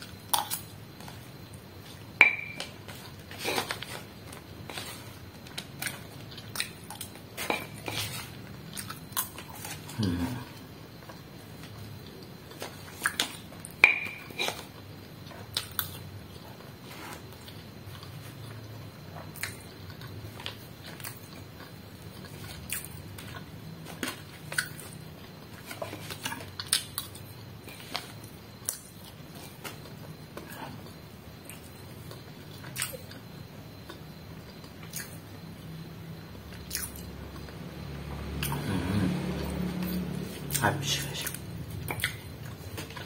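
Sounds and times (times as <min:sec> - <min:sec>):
chewing: 0:00.0 - 0:35.4, 0:36.5 - 0:37.6, 0:41.2 - 0:43.0.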